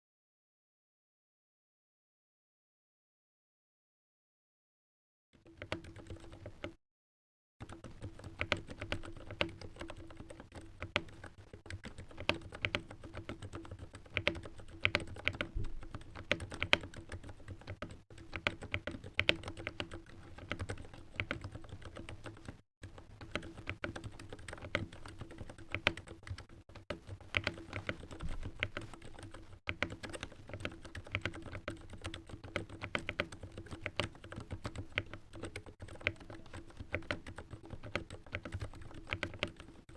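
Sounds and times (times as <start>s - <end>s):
soft keyboard typing: 5.4s - 6.8s, 7.6s - 39.9s.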